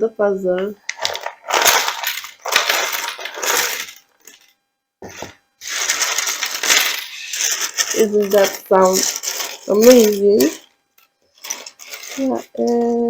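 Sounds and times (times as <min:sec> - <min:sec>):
wooden puzzle pieces clattering: 0:00.7 - 0:04.4, 0:05.1 - 0:10.7, 0:11.4 - 0:13.0.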